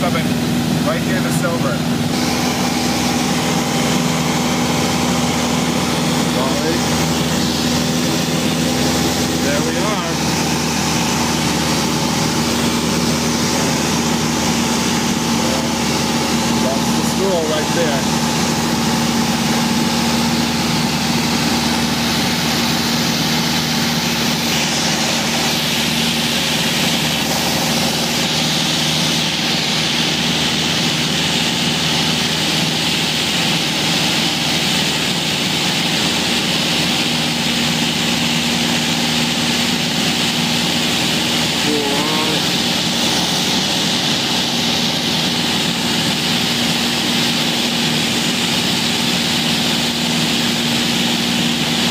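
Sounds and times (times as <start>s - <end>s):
propeller aircraft cabin drone: 0.0s - 51.9s.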